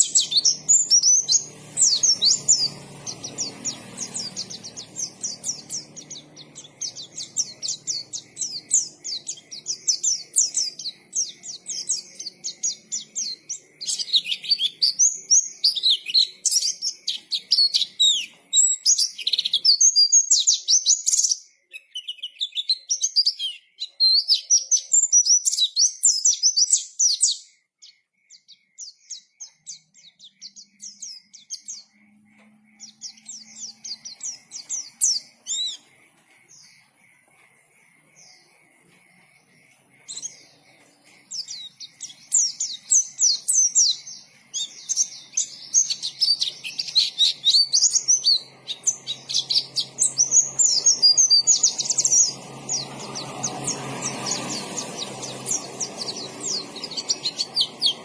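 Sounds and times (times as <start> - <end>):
bird singing high chirps: 0.0 - 58.0.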